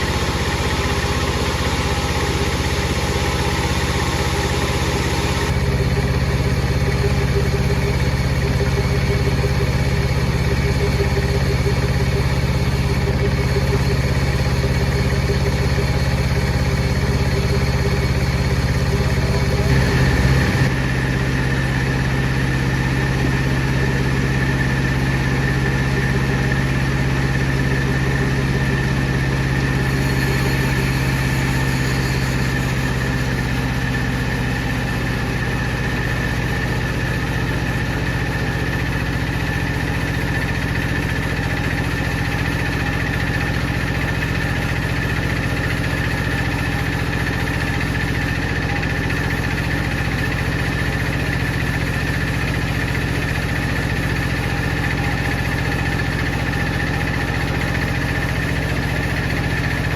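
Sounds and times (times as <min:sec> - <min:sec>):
power saw humming: 0:00.0 - 0:26.6, 0:29.2 - 0:59.9.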